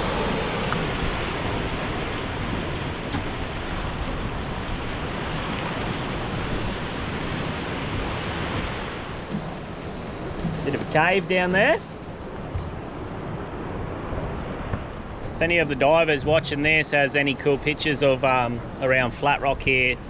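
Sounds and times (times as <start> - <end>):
wind buffeting microphone: 0.0 - 17.7
sea rushing: 0.0 - 20.0.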